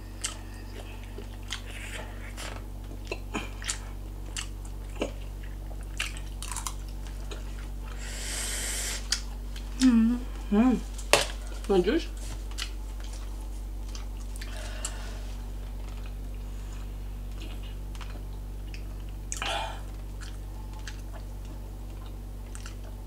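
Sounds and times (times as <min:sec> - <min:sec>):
steady low hum: 0:00.0 - 0:23.0
chewing: 0:00.2 - 0:08.0, 0:12.4 - 0:23.0.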